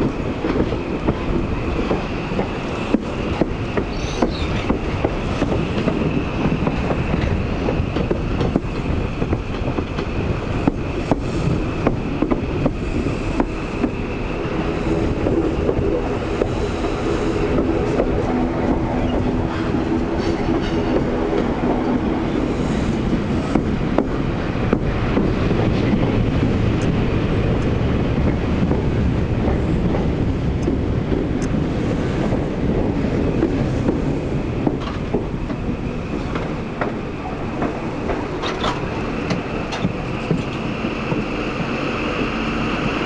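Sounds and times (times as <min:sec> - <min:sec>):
diesel train engine: 0:00.0 - 0:43.0
train wheels clicking over rail joints: 0:00.0 - 0:43.0.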